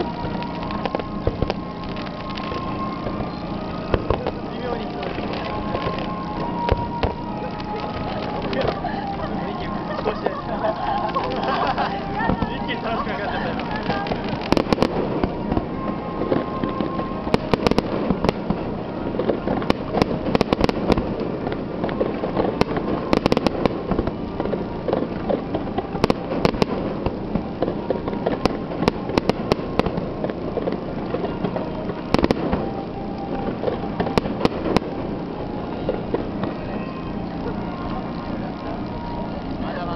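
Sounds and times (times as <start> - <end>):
firework bangs: 0.0 - 39.9.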